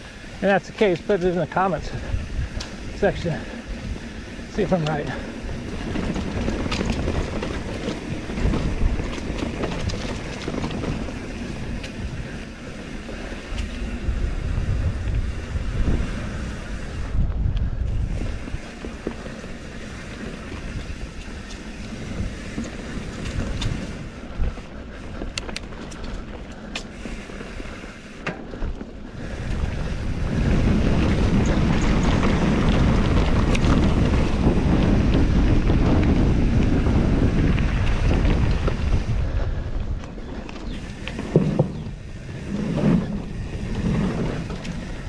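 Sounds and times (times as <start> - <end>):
bike clicks and rattles: 0.0 - 45.0
bike tyres rolling on leafy trail: 0.0 - 45.0
wind buffeting microphone: 0.0 - 45.0.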